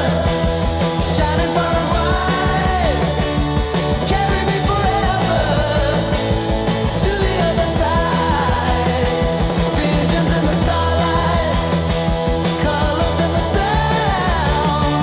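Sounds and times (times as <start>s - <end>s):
psychedelic rock song: 0.0s - 15.0s.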